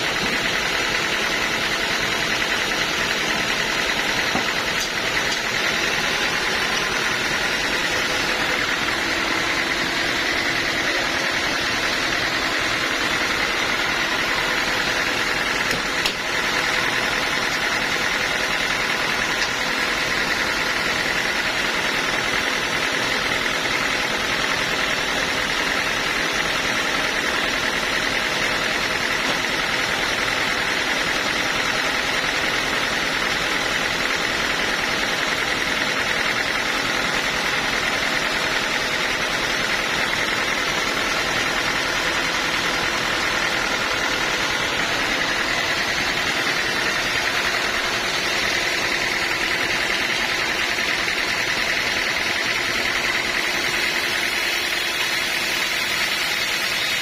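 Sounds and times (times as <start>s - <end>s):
band sawmill running: 0.0s - 57.0s.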